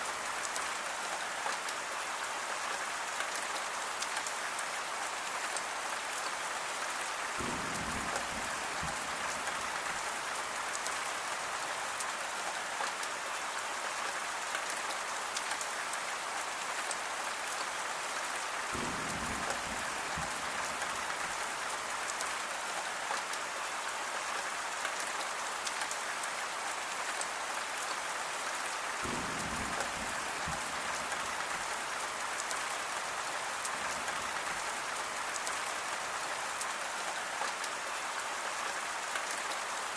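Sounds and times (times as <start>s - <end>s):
raindrops ticking close by: 0.0s - 39.9s
steady rainfall: 0.0s - 39.9s.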